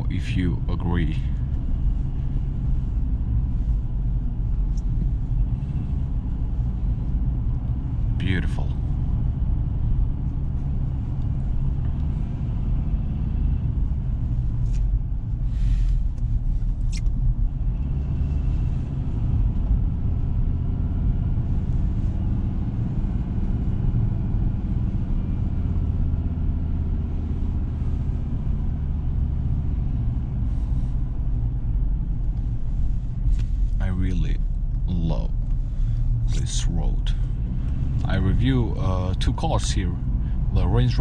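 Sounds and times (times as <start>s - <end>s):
pickup engine and road rumble: 0.0s - 41.0s.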